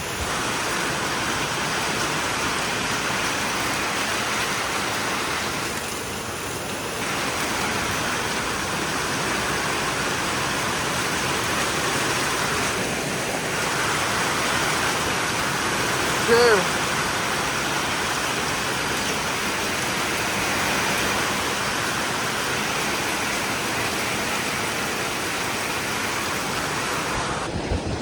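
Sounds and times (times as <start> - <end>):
rain and wind rushing: 0.0 - 28.0.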